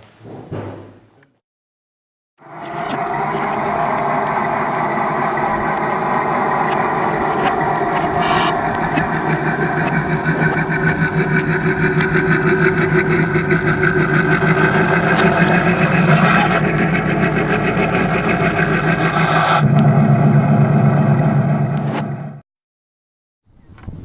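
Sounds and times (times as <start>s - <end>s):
model locomotive engine running: 2.4s - 22.4s.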